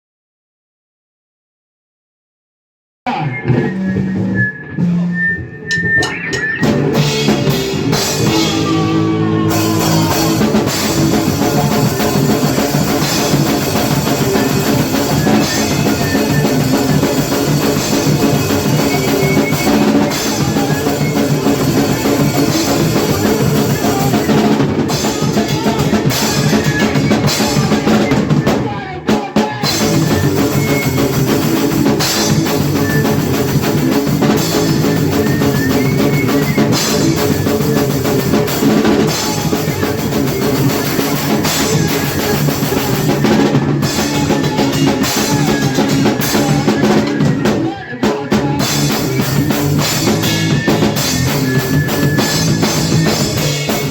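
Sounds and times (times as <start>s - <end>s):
drum kit bass drum and snare: 3.1s - 53.9s
hardcore punk band playing: 3.1s - 53.9s.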